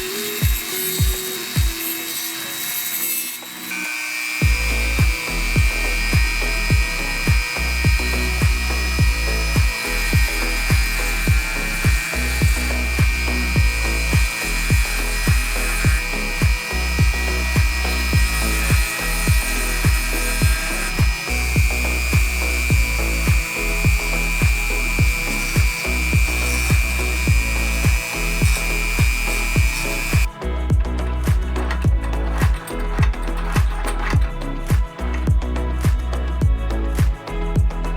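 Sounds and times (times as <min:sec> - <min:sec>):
background music with steady beat: 0:00.0 - 0:37.9
rotary tool whining: 0:00.0 - 0:37.9.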